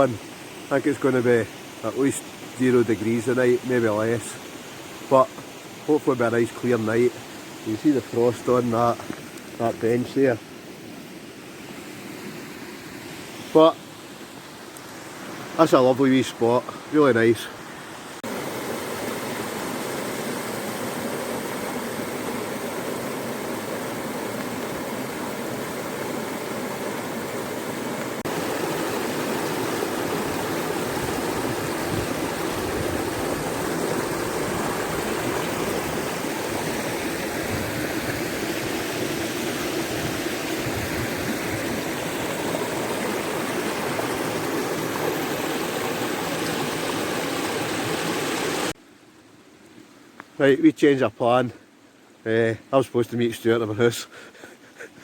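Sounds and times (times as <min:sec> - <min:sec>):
water rushing and splashing: 0:00.0 - 0:55.0.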